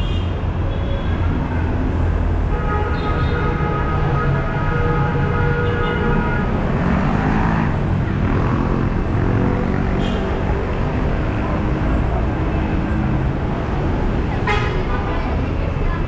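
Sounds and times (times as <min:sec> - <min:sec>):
traffic rumble: 0:00.0 - 0:16.0
vehicles passing: 0:00.0 - 0:16.0.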